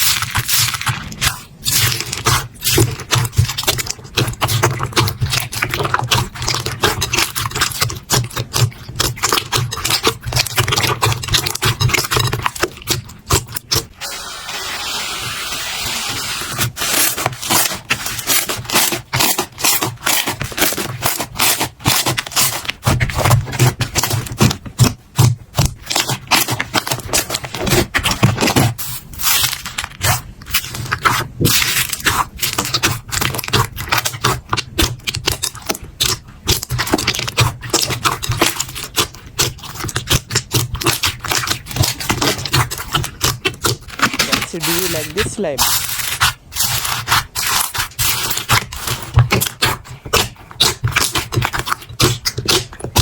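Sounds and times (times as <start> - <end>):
slime crackling and popping: 0.0 - 14.2, 15.6 - 53.0.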